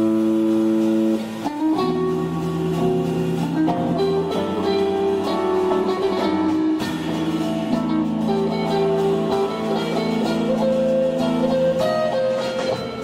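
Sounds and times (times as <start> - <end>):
electric guitar melody: 0.0 - 13.0
live rock band: 0.0 - 13.0
sharp percussive hits: 1.2 - 13.0.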